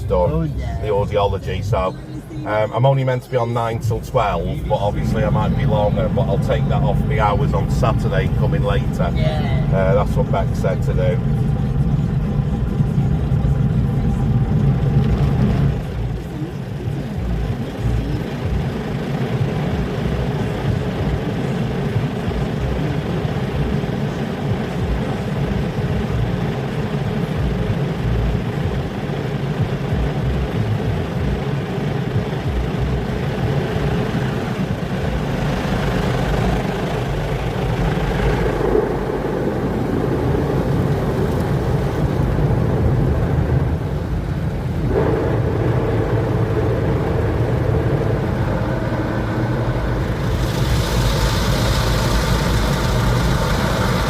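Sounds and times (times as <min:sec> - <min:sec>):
car wash brushes and water spray: 0:00.0 - 0:54.0.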